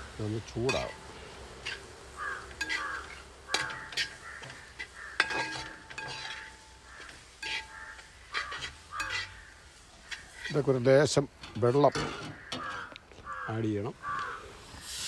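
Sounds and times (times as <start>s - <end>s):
faint sizzle: 0.0s - 15.0s
metal spatula scraping pot: 0.6s - 12.9s.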